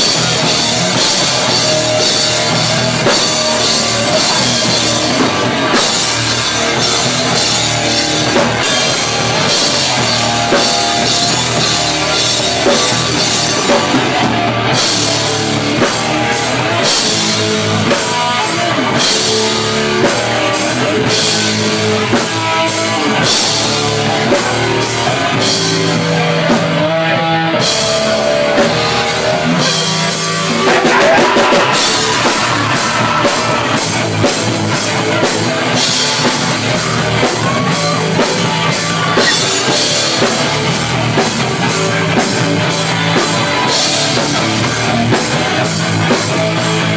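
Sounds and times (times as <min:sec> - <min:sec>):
drum kit with cymbals: 0:00.0 - 0:46.9
electric guitars: 0:00.0 - 0:46.9.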